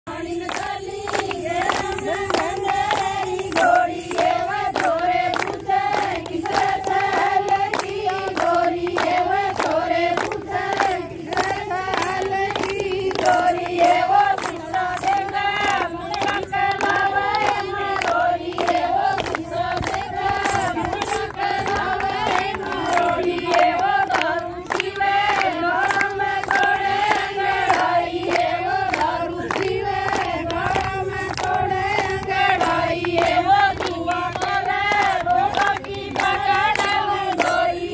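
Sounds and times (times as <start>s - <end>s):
hand-clapping: 0.1s - 37.9s
women singing together: 0.1s - 37.9s.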